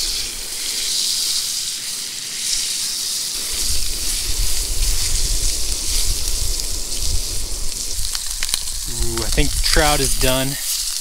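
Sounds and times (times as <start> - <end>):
fish sizzling in butter: 0.0 - 11.0.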